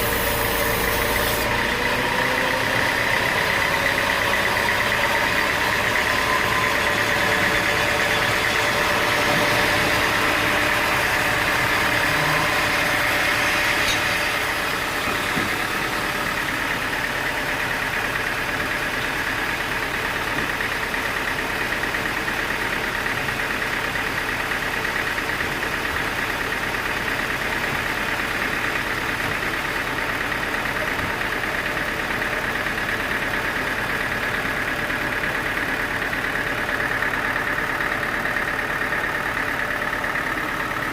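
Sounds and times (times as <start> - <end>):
sawmill machinery engine drone: 0.0 - 40.9.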